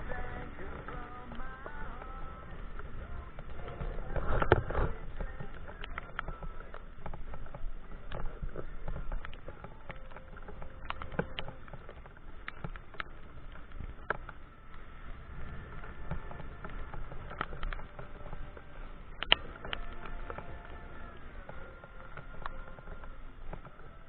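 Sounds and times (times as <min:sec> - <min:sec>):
raindrops tapping on camera: 0:00.0 - 0:24.0
wind rumble: 0:00.0 - 0:24.0.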